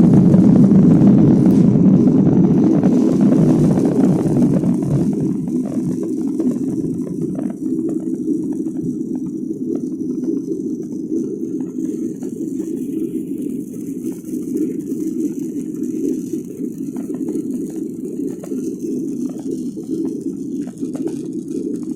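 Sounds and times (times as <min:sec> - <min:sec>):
jet engine drone in cabin: 0:00.0 - 0:21.9.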